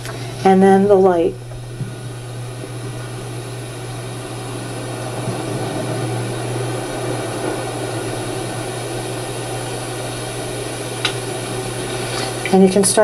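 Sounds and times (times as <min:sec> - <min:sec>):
even hiss: 0:00.0 - 0:13.0
low hum: 0:00.0 - 0:13.0.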